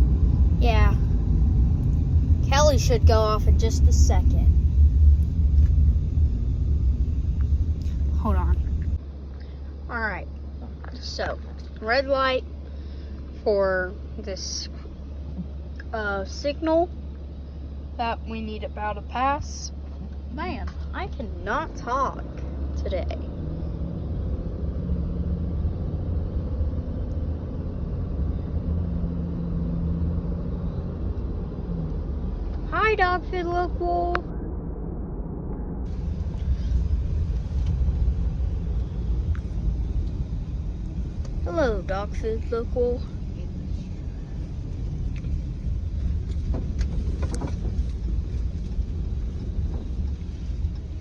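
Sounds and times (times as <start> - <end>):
vehicle rumble inside car: 0.0 - 51.0.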